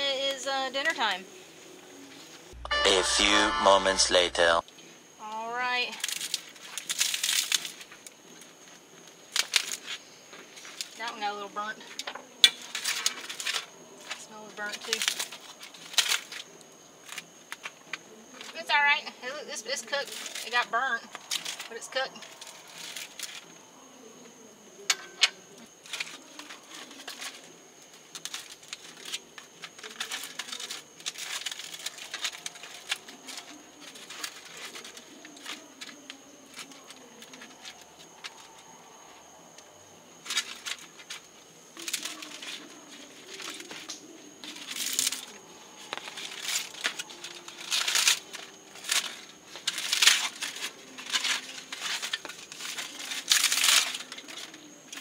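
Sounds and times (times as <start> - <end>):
aluminium foil crinkling: 5.2 - 38.9, 39.5 - 55.0.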